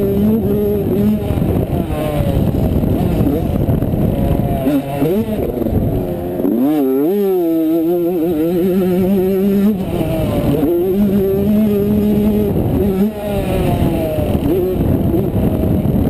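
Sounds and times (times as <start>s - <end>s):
two-stroke motorbike engine revving: 0.0s - 16.0s.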